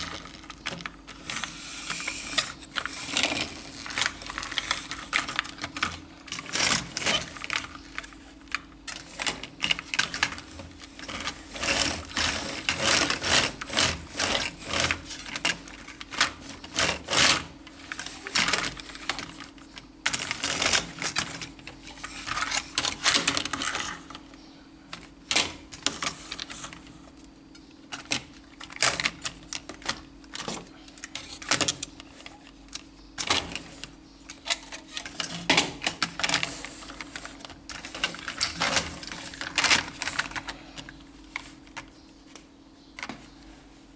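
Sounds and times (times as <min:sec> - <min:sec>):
plastic toy cars clicking and rattling: 0:00.0 - 0:24.2, 0:27.9 - 0:41.9
steady low hum: 0:00.0 - 0:43.9.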